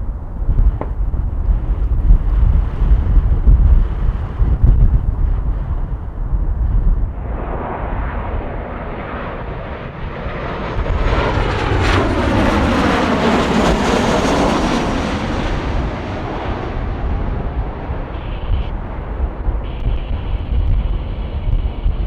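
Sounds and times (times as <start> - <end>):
jet airliner passing: 0.0 - 22.0
wind buffeting microphone: 0.0 - 22.0.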